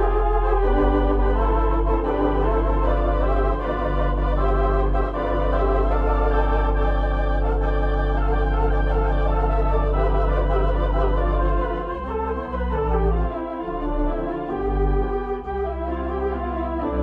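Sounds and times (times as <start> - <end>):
deep organ bass note: 0.0 - 17.0
organ chords: 0.0 - 17.0.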